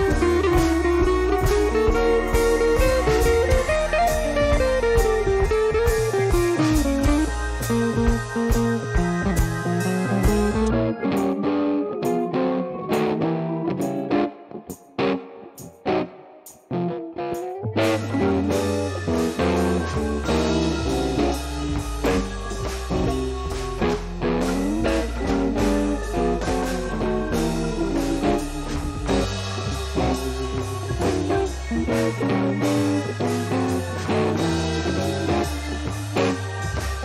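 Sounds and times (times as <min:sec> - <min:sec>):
guitar instrumental music: 0:00.0 - 0:37.0.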